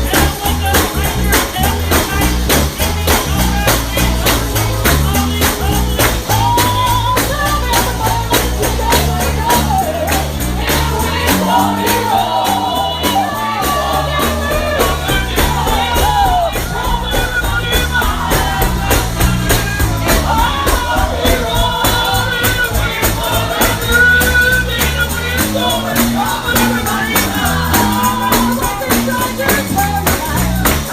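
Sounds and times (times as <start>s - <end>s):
gospel singing voices: 0.0s - 30.9s
tambourine beat: 0.0s - 30.9s
low accompaniment: 0.4s - 30.9s.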